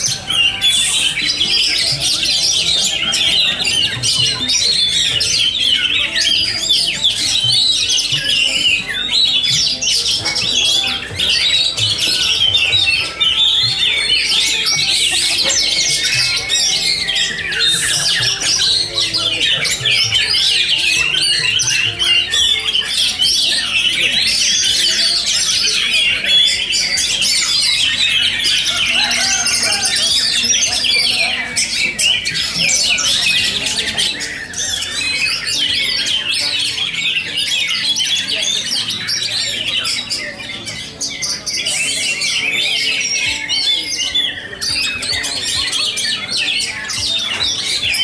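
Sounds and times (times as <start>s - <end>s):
chorus of songbirds singing: 0.0s - 48.0s.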